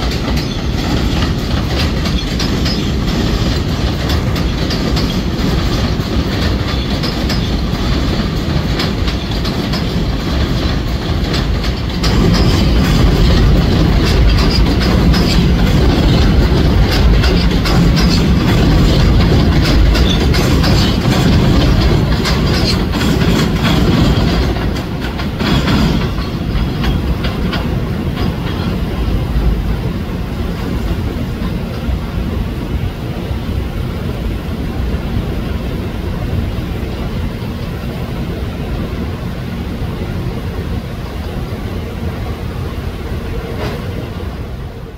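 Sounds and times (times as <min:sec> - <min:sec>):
subway train rumble: 0:00.0 - 0:44.9
train wheels clacking over rail joints: 0:00.0 - 0:44.9.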